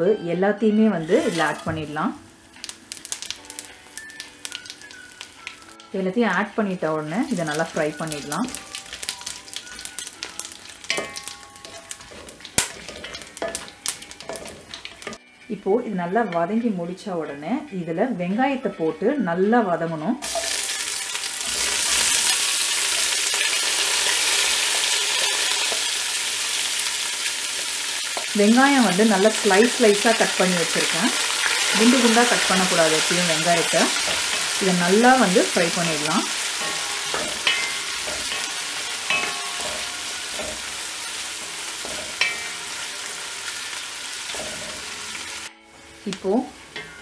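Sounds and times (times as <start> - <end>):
onions sizzling in hot oil: 1.0 - 15.2, 20.2 - 47.0.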